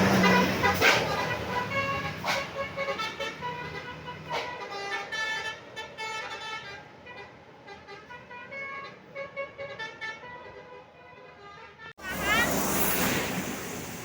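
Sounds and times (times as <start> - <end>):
bus multi-tone horn tune: 0.0 - 13.3.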